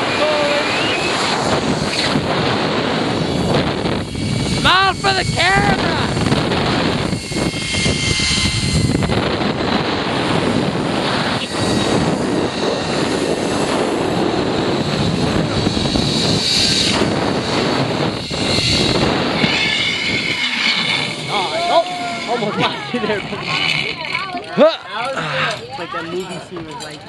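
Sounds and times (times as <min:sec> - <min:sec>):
wind buffeting microphone: 0:00.0 - 0:24.5.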